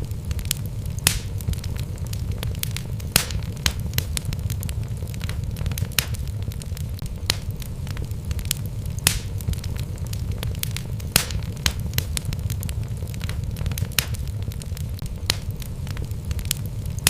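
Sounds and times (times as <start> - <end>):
fire flames rumbling: 0.0 - 17.0
logs crackling and popping: 0.0 - 17.0.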